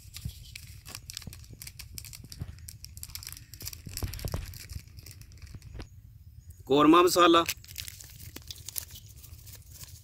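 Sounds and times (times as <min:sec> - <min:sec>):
foil packet crinkling: 0:00.0 - 0:05.9, 0:07.2 - 0:10.0.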